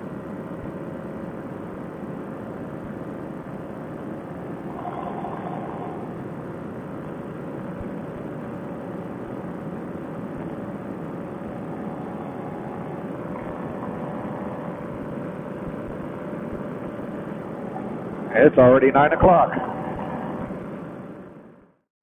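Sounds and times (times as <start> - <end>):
paramotor engine droning: 2.4 - 21.6.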